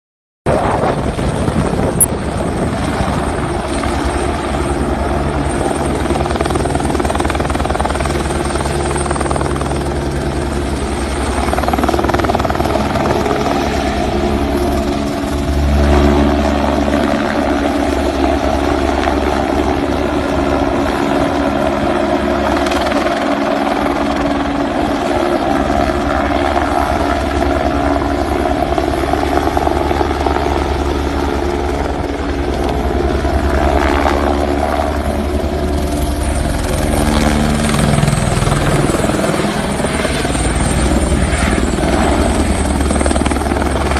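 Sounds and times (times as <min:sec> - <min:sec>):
helicopter engine whine: 0:00.5 - 0:43.9
helicopter rotor chopping: 0:00.5 - 0:43.9.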